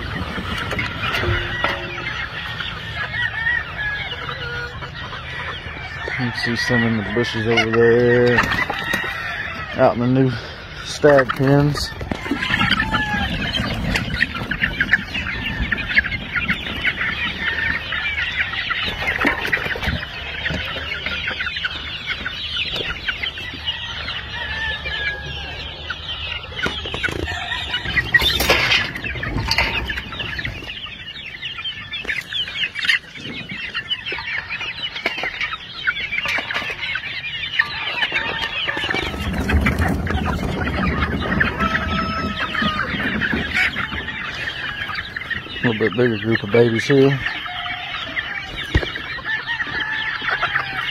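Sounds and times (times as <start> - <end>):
chicks peeping: 0.0 - 50.9
clucks: 0.0 - 50.9.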